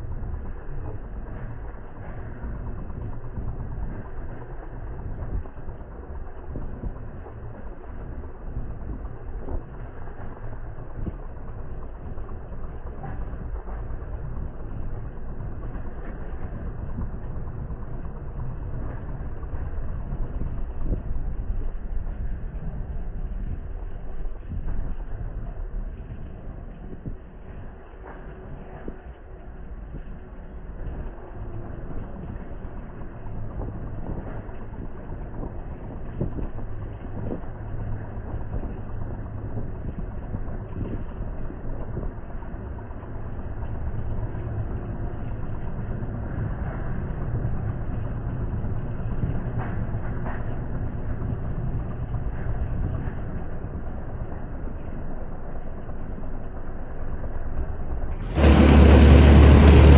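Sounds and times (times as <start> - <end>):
wind buffeting microphone: 0.0 - 57.3, 58.1 - 59.9
vehicle rumbling: 0.0 - 59.9.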